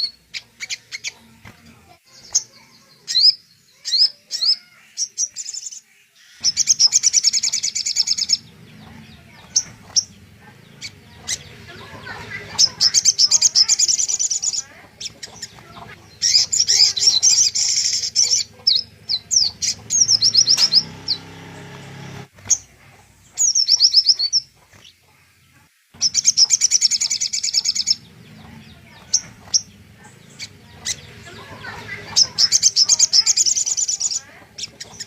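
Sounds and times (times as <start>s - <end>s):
low steady background hum: 0.0s - 35.0s
songbird trilling: 2.2s - 21.4s, 26.0s - 35.0s.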